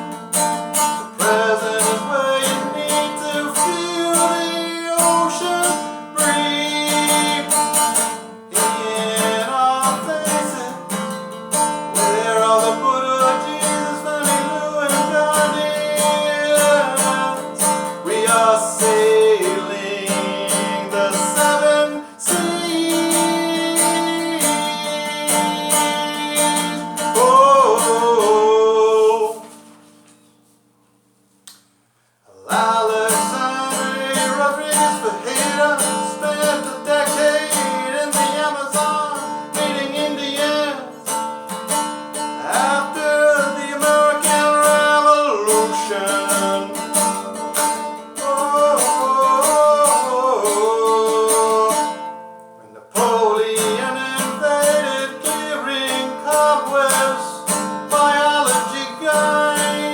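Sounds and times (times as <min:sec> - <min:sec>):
acoustic guitar strumming chords: 0:00.0 - 0:31.3, 0:32.0 - 0:59.9.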